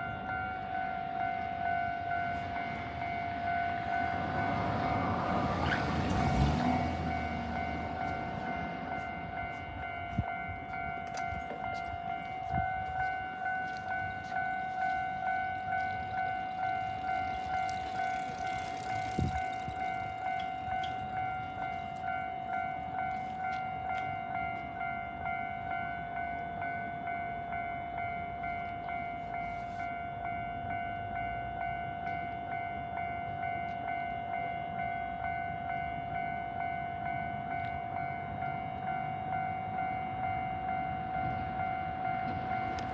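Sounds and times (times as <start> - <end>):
level-crossing warning bell: 0.0 - 42.9
train rumbling on rails: 0.0 - 42.9.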